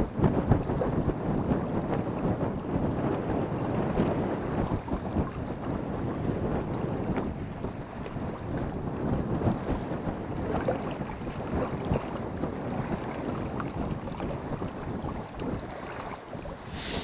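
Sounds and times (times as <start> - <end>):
wind noise on microphone: 0.0 - 17.0
waves lapping against rocks: 0.1 - 17.0.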